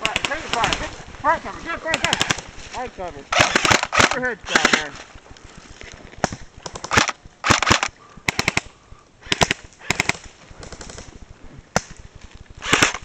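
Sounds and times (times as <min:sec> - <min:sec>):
airsoft guns firing bursts: 0:00.0 - 0:01.0, 0:01.8 - 0:05.2, 0:06.2 - 0:13.0.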